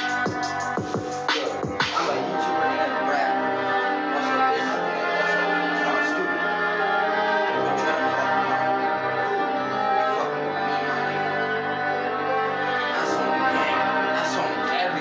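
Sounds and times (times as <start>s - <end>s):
hip-hop instrumental beat: 0.0s - 15.0s.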